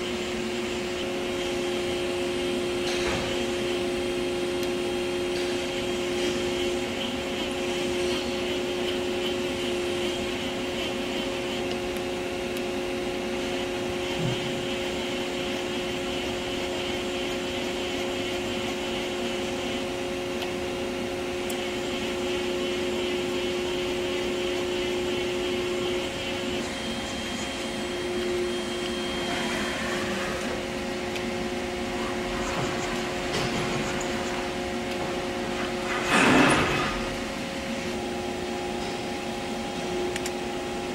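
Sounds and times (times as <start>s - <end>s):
high motor whine: 0.0s - 40.9s
machine humming: 0.0s - 40.9s.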